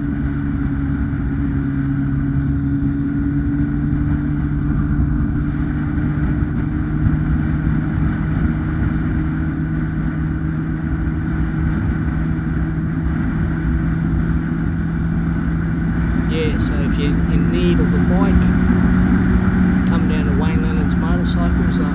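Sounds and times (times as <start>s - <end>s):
motorcycle engine cruising: 0.0s - 21.9s.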